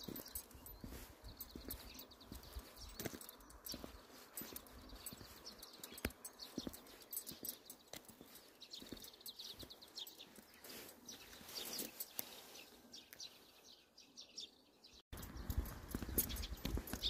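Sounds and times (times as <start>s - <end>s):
footsteps crunching over dry soil: 0.0s - 13.4s, 15.1s - 17.0s
bird chirps: 0.0s - 17.0s.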